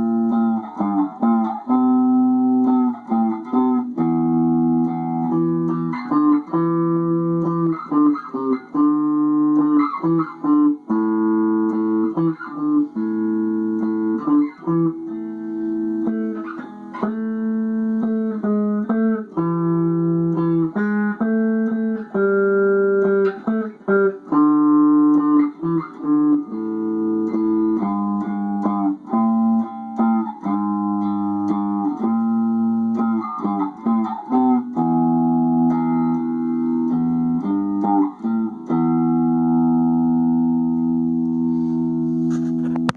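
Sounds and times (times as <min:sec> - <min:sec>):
guitar chords ringing: 0:00.0 - 0:42.9.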